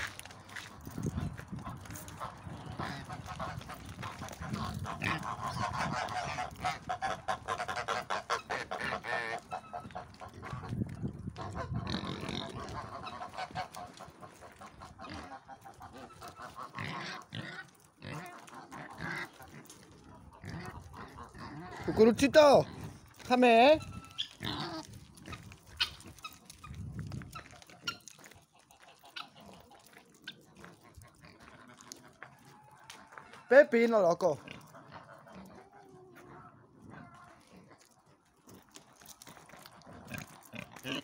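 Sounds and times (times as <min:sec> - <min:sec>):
pigs grunting and squealing: 0:00.4 - 0:28.2, 0:28.8 - 0:41.0.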